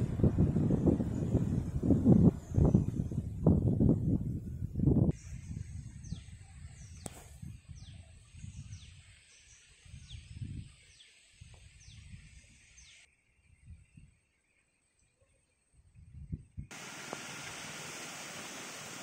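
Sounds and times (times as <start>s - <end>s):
wind rumble on microphone: 0.0s - 14.2s, 15.8s - 16.8s.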